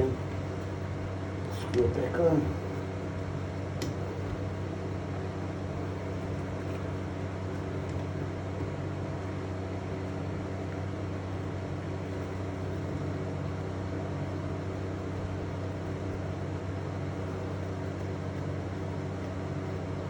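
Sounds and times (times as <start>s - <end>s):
low buzzy mechanical hum: 0.0s - 20.0s.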